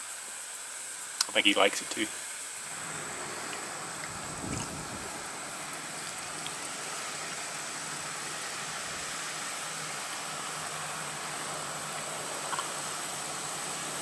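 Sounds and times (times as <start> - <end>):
outdoor background hiss: 0.0 - 14.0
thin high steady tone: 0.0 - 14.0.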